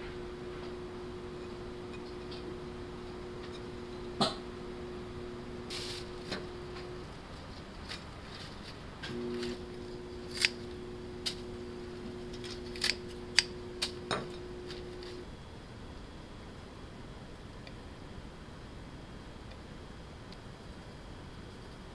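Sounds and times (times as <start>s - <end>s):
low steady hum: 0.0s - 21.9s.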